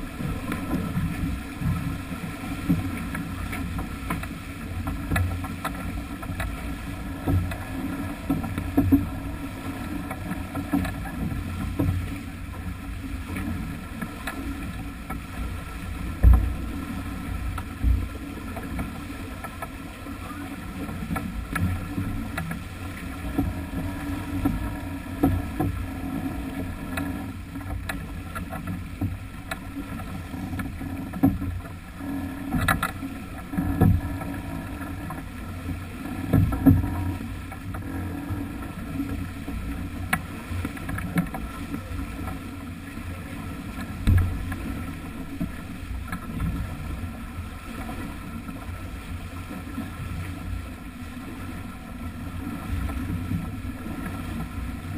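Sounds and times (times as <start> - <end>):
water rushing along a hull: 0.0 - 54.9.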